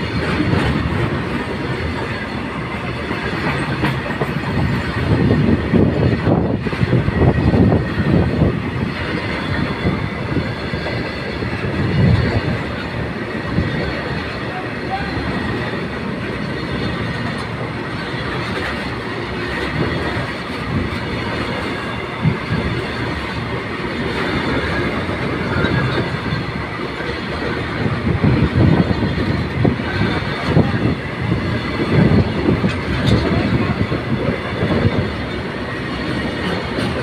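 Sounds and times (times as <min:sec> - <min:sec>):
steel wheels rumbling on rail: 0:00.0 - 0:37.0.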